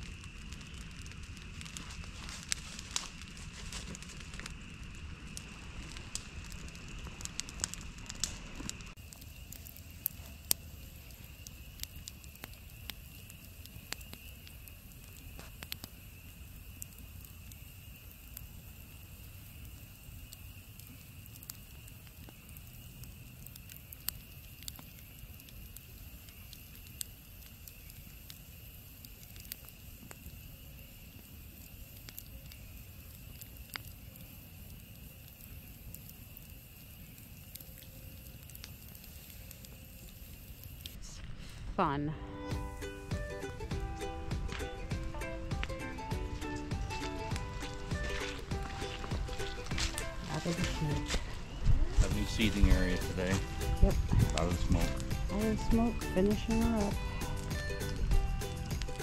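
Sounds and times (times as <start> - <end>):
faint steady hiss: 0.0 - 59.0
wood fire crackling and popping: 0.0 - 59.0.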